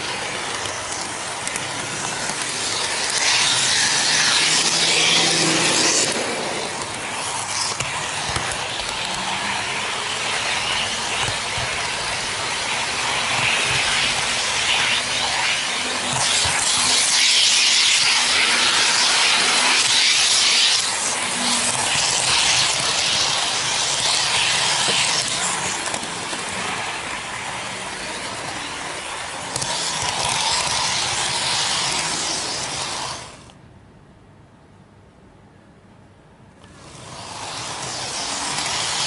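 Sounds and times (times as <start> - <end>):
model train running on track: 0.0 - 33.5, 36.6 - 39.0.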